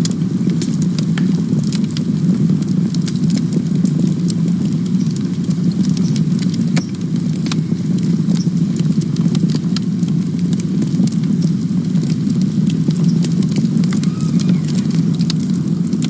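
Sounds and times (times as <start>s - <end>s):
fire crackling and popping: 0.0s - 16.0s
flames rushing: 0.0s - 16.0s.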